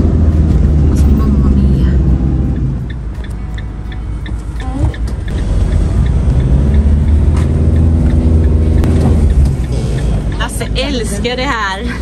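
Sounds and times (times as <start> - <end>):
motorhome engine: 0.0 - 12.0
road noise: 0.0 - 12.0
light regular ticking: 1.8 - 12.0.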